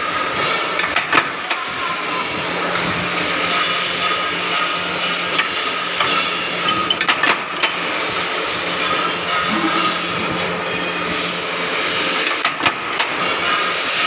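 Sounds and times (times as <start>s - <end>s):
power press flywheel whirring: 0.0s - 14.0s.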